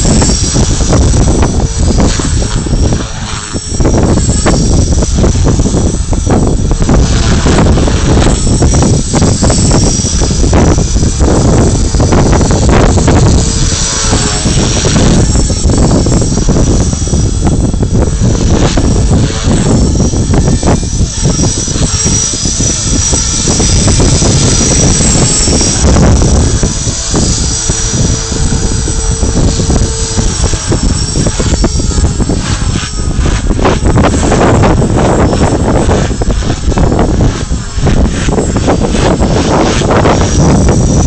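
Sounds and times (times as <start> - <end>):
rc helicopter rotor whine: 0.0 - 41.0
wind rumble on microphone: 0.0 - 41.0.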